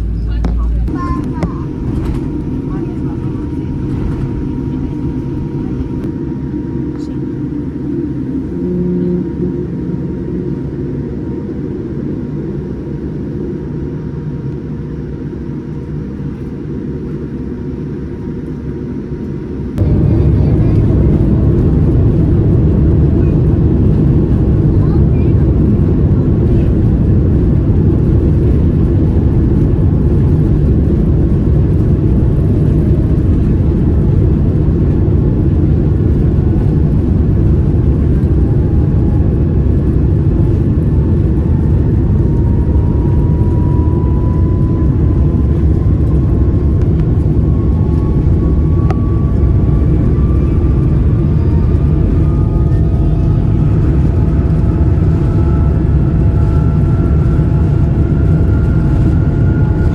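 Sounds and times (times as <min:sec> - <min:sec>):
aircraft engine and air rumble: 0:00.0 - 0:59.9.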